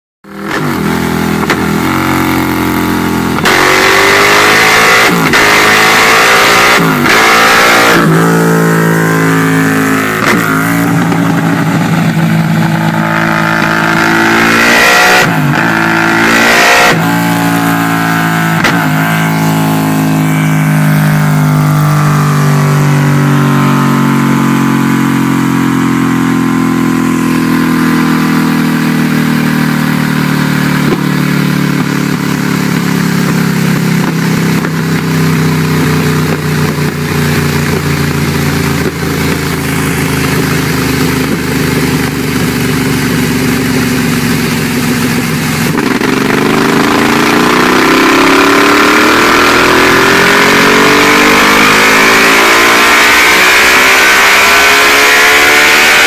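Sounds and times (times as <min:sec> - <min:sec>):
motorcycle engine revving: 0:00.2 - 0:56.0.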